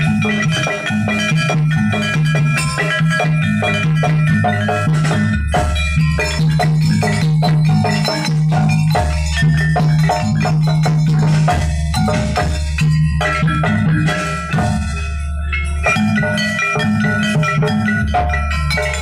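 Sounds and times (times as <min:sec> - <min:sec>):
drums: 0:00.0 - 0:19.0
low bass notes: 0:00.0 - 0:19.0
metal-keyed percussion runs: 0:00.0 - 0:19.0.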